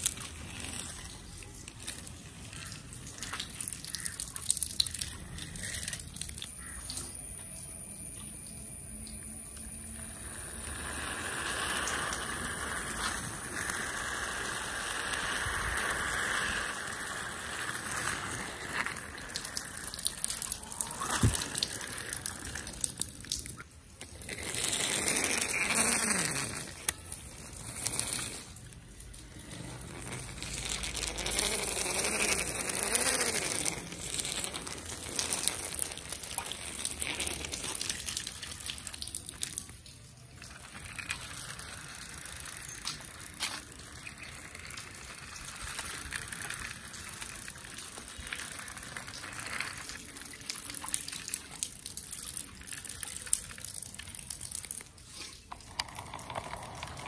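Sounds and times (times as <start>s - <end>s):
toy wheels splashing through water: 0.0s - 57.0s.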